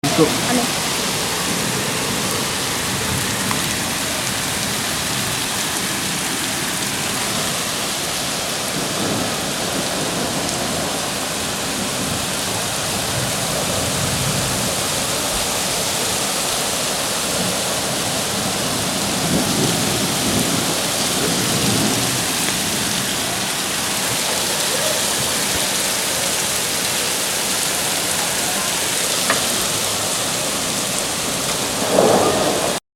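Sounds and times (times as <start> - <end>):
hail and heavy rain: 0.0 - 32.8.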